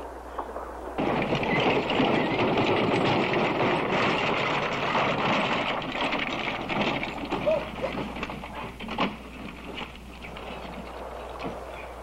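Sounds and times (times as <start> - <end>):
horses' hooves: 0.0 - 12.0
wooden wagon wheels rattling: 0.0 - 12.0.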